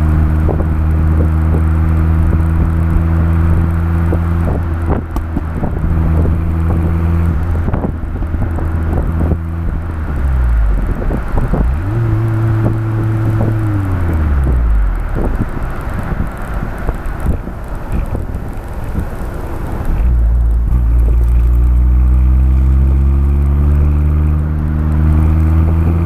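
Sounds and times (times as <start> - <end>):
car exhaust while driving: 0.0 - 26.0
wind buffeting microphone: 0.0 - 26.0.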